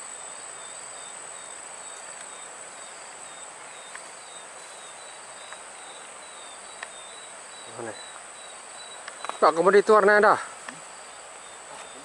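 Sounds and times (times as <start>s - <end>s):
faint hiss: 0.0s - 12.0s
insect chirps: 0.0s - 12.0s
insects whining: 0.0s - 12.0s.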